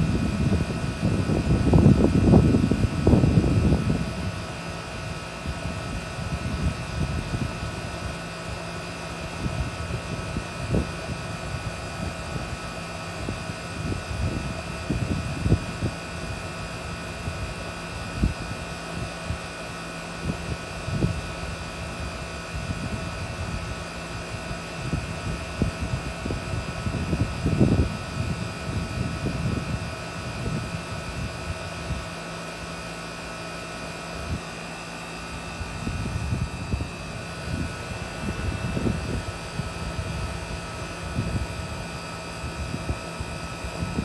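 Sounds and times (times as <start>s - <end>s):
air conditioner unit humming: 0.0s - 44.0s
wind buffeting microphone: 0.0s - 44.0s.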